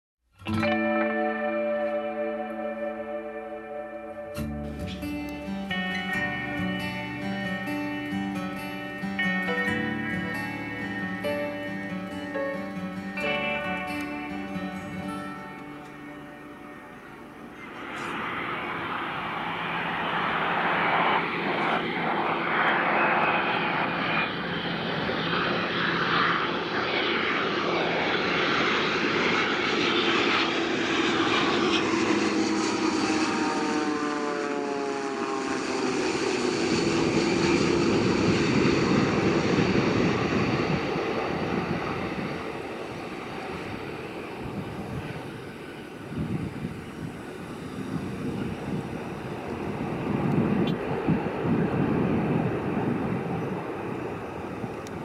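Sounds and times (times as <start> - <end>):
jet engines whining: 1.4 - 55.0
deep rumble of landing jet: 4.2 - 55.0.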